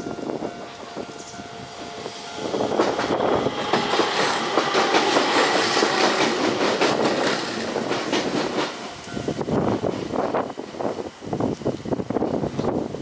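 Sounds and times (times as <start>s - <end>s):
train wheels clattering: 0.4s - 10.9s.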